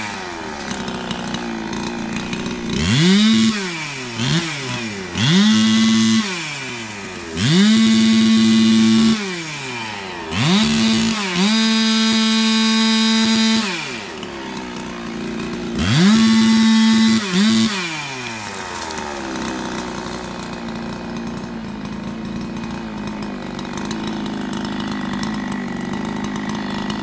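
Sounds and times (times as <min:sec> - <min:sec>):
chainsaw revving and idling: 0:00.0 - 0:27.0.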